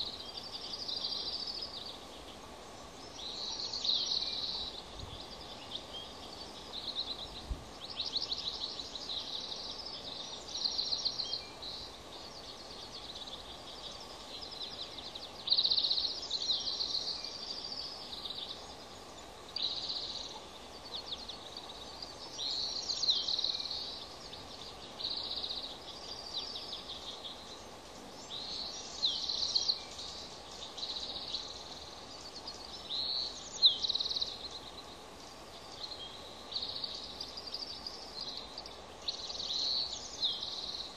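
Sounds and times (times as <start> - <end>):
faint hiss: 0.0 - 40.9.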